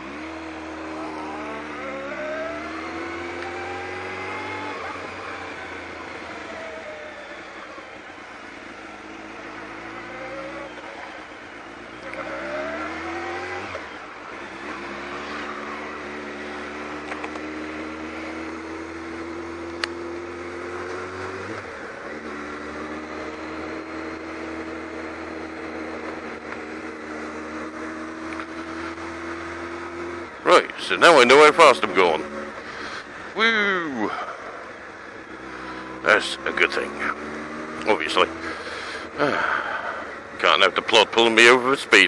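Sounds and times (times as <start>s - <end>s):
motorcycle engine accelerating: 0.0s - 42.0s
wind and road noise: 0.0s - 42.0s.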